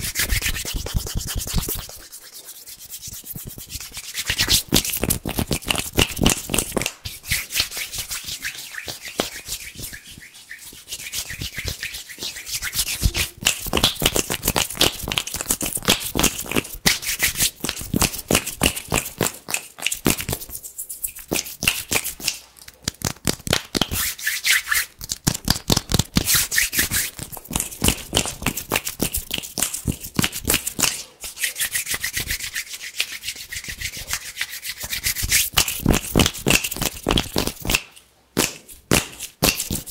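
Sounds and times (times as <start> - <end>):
hands rubbing together: 0.0 - 37.8.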